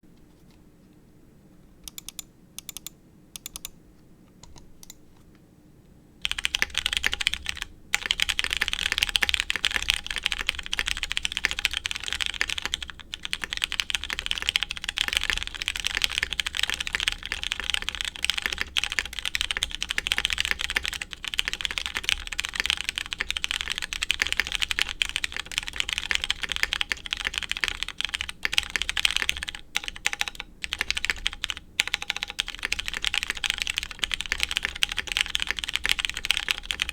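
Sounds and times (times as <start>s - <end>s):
mechanical keyboard typing: 1.8s - 3.8s, 6.2s - 36.9s.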